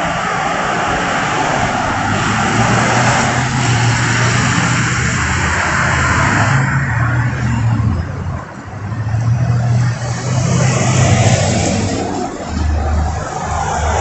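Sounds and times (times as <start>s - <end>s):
bus passing close by: 0.0s - 14.0s
cars driving past: 0.0s - 14.0s
engine hum: 0.0s - 14.0s.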